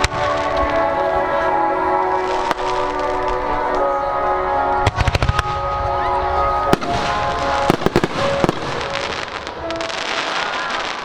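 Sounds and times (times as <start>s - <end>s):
fireworks banging: 0.0s - 4.1s, 4.7s - 11.0s
music playing: 0.0s - 11.0s.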